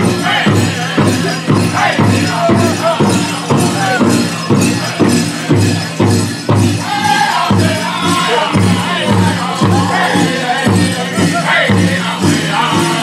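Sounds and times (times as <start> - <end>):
high voices singing: 0.0 - 13.0
large drum beating: 0.0 - 13.0
jingling: 0.2 - 13.0.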